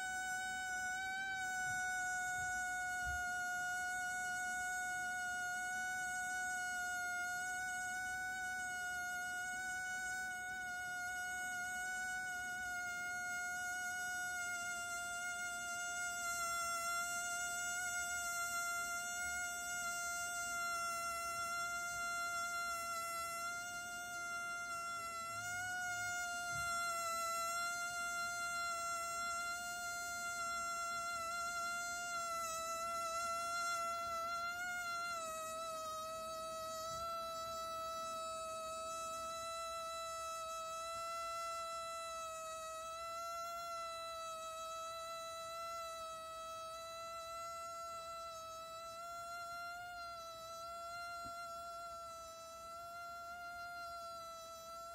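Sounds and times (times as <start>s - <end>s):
vibrating balloon buzzing whine: 0.0s - 54.9s.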